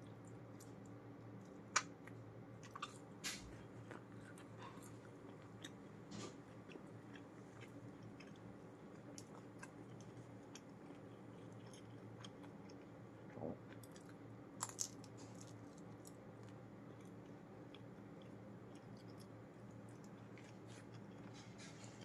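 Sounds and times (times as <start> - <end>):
chewing with crunches: 0.0 - 22.0
steady low hum: 0.0 - 22.0.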